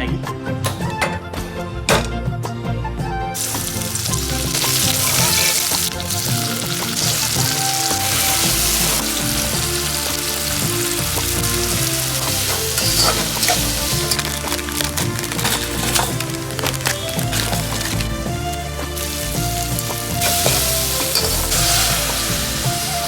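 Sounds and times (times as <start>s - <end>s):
background music: 0.0s - 23.0s
food sizzling in hot oil: 3.4s - 23.0s.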